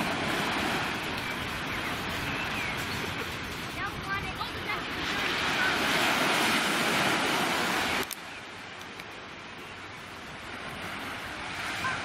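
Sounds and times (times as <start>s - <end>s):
small waves breaking on sand: 0.0s - 12.0s.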